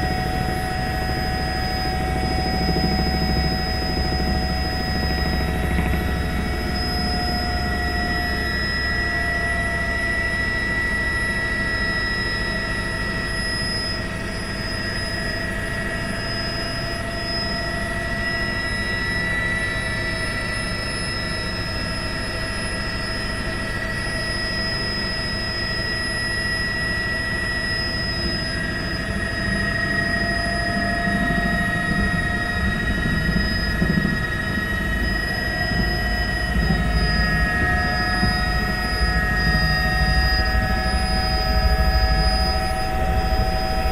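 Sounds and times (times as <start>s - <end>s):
helicopter running: 0.0s - 43.9s.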